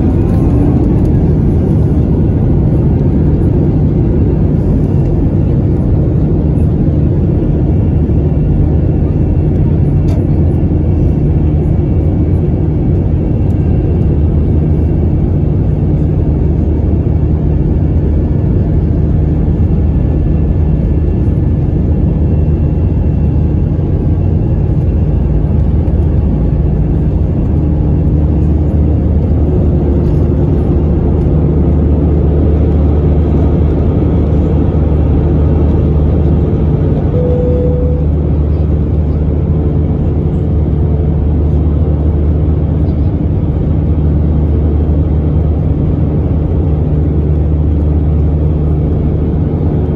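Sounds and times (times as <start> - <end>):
jet engine roar in cabin: 0.0 - 49.9.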